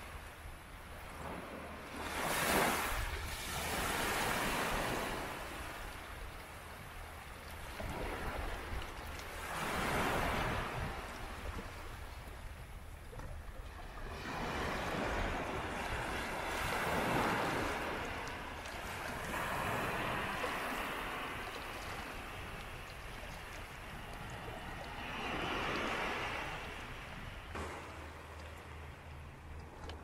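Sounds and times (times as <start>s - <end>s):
sea waves breaking on shore: 0.0s - 30.0s.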